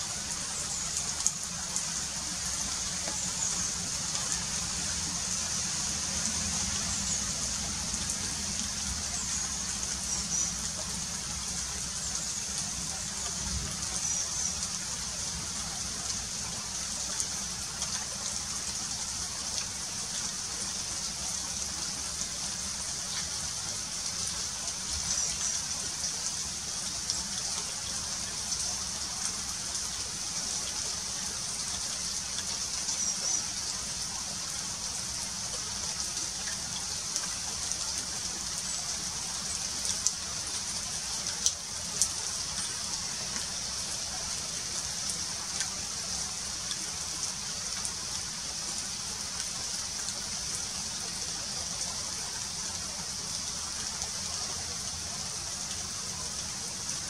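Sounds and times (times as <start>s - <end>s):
rain falling on vegetation: 0.0s - 57.0s.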